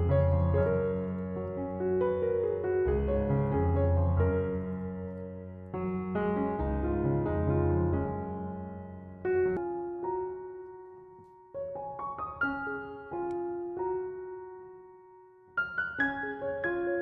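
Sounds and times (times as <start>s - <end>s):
soft piano melody: 0.0s - 17.0s.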